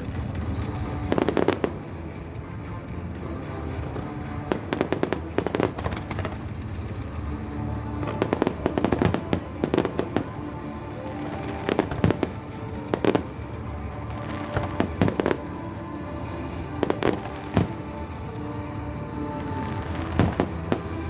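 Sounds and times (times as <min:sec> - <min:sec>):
background music: 0:00.0 - 0:21.0
fireworks bursting with sharp bangs: 0:00.0 - 0:21.0.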